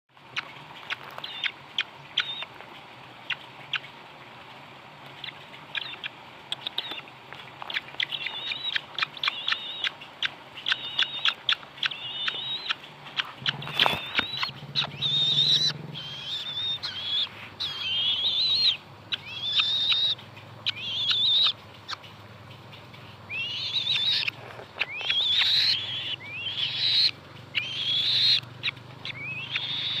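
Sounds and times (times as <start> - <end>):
bird chirping and calling: 0.3 - 2.6, 3.2 - 4.0, 5.1 - 30.0.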